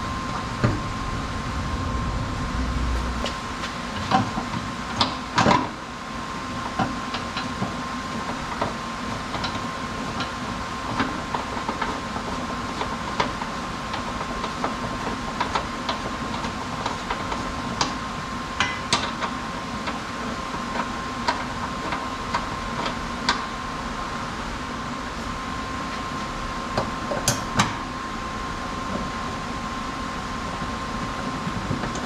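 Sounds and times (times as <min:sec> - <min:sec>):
workshop hum: 0:00.0 - 0:32.0.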